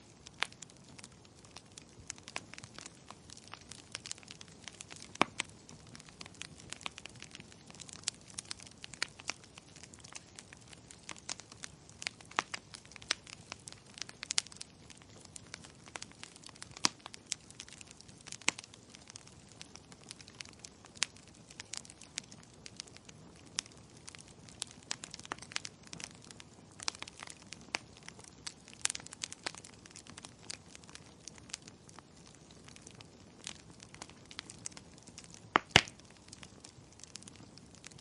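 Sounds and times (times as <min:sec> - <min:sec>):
faint steady hiss: 0:00.0 - 0:38.0
wood fire popping and snapping: 0:00.0 - 0:38.0.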